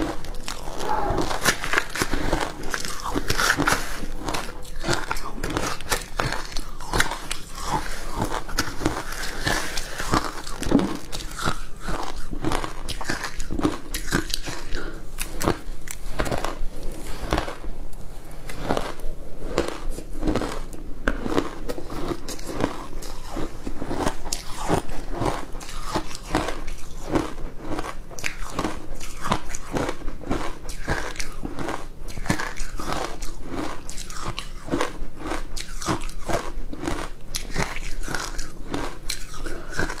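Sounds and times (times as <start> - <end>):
ice crunching while chewed: 0.0 - 17.7, 18.3 - 40.0.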